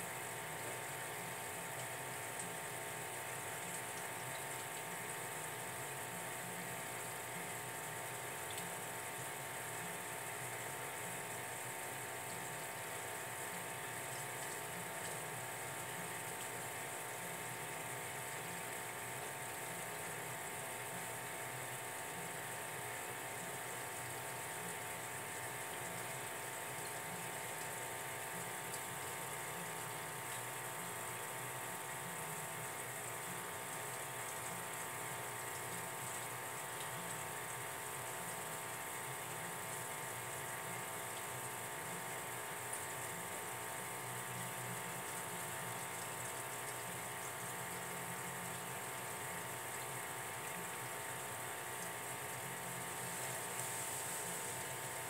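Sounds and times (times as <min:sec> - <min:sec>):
aquarium water hiss: 0:00.0 - 0:55.0
faint steady hum: 0:00.0 - 0:55.0.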